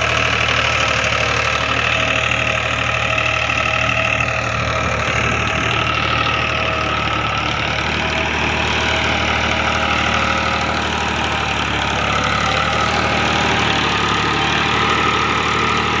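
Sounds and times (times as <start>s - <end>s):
tractor engine running steadily: 0.0s - 16.0s.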